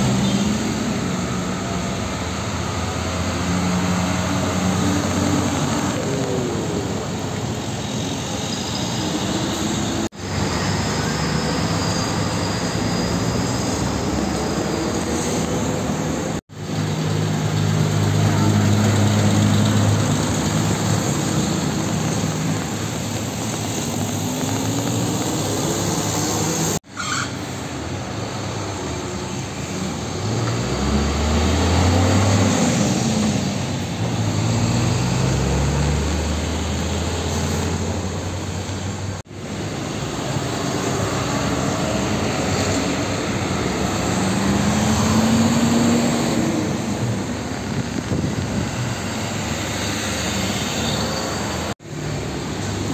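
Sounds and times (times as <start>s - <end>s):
road traffic noise: 0.0s - 52.9s
trucks driving past: 0.0s - 52.9s.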